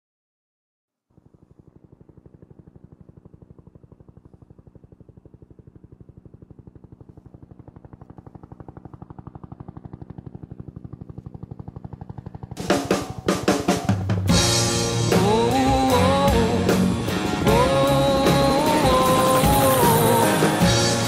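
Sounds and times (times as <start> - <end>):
helicopter rotor beating: 1.1 - 21.0.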